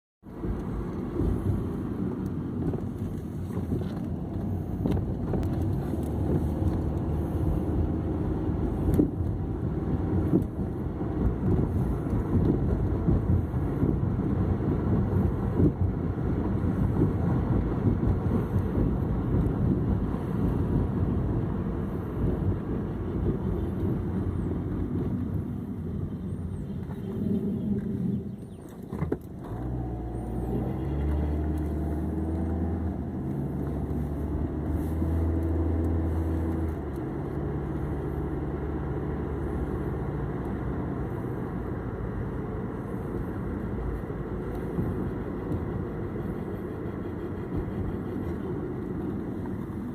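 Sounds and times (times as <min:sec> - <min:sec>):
wheel grinding rumble: 0:00.3 - 0:49.9.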